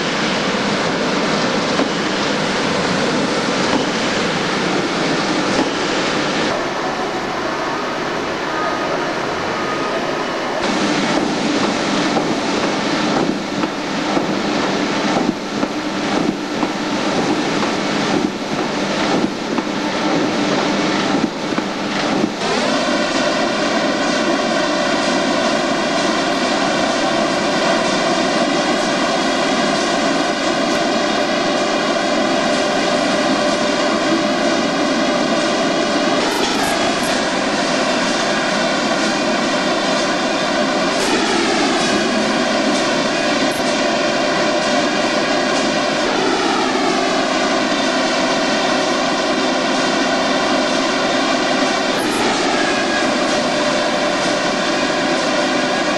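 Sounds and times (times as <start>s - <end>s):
industrial machinery droning: 0.0s - 55.9s.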